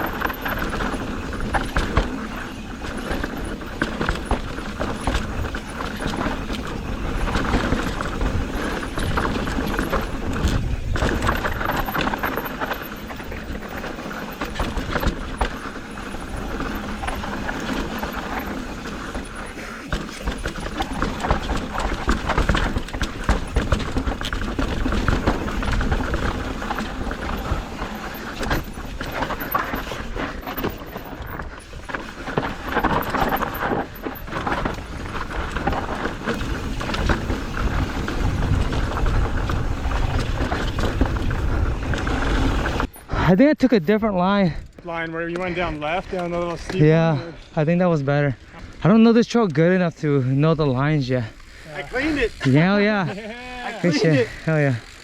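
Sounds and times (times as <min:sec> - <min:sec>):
bike chain and frame rattling: 0:00.0 - 0:55.0
bike tyres crunching over rock: 0:00.0 - 0:55.0.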